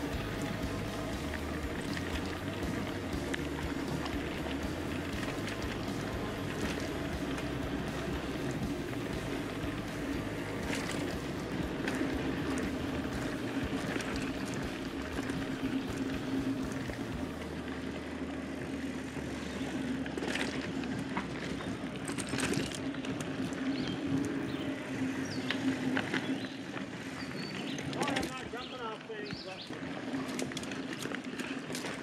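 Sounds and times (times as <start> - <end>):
bike clattering over bumps: 0.0 - 32.0
bike tyre noise on dirt: 0.0 - 32.0.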